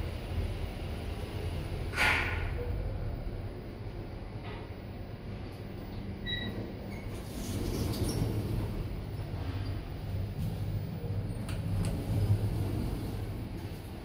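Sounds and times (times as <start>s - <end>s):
elevator machine hum: 0.0s - 14.0s.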